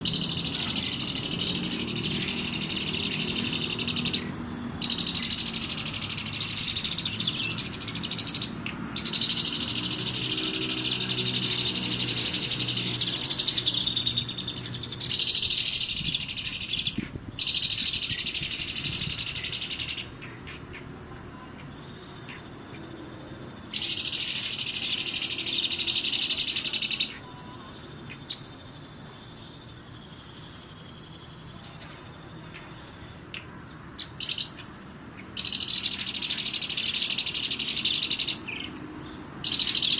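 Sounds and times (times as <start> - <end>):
starling chattering song: 0.0 - 22.9, 23.7 - 28.8, 32.4 - 38.8, 39.4 - 39.9.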